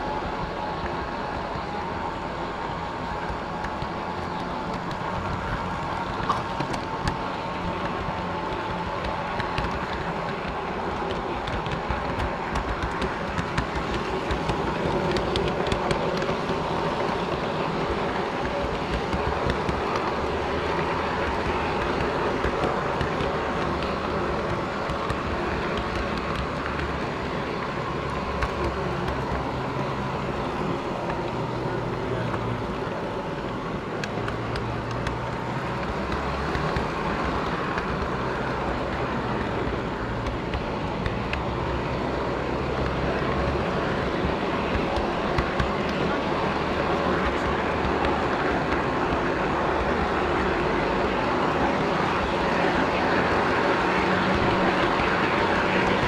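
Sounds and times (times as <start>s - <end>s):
model steam locomotive running: 0.0s - 56.0s.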